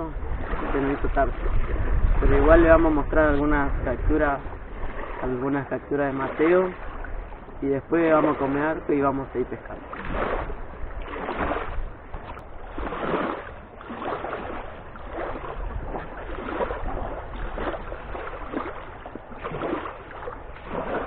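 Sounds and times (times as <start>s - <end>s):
small waves lapping: 0.0s - 21.0s.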